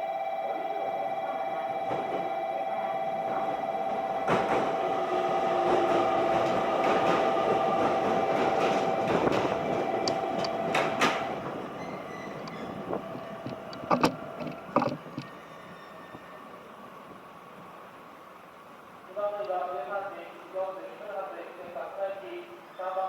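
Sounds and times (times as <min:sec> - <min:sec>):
train running with whine: 0:00.0 - 0:20.0.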